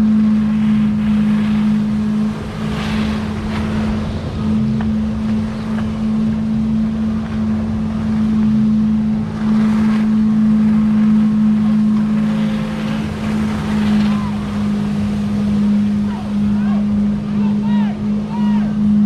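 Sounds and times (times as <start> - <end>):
wind on microphone: 0.0 - 17.4
boat engine running: 0.0 - 19.0.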